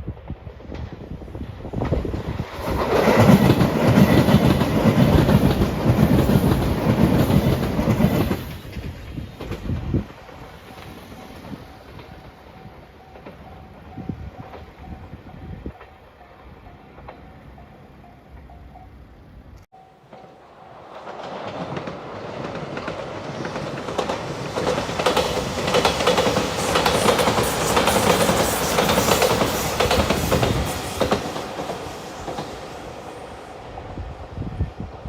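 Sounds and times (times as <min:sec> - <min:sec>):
train passing at speed: 0:00.0 - 0:35.0
wheels clicking over rail joints: 0:00.4 - 0:18.9, 0:19.5 - 0:32.6.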